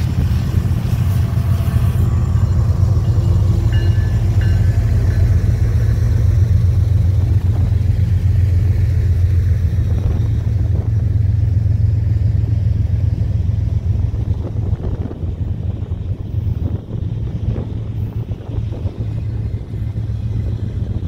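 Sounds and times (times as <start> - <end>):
diesel locomotives pulling away: 0.0 - 21.0.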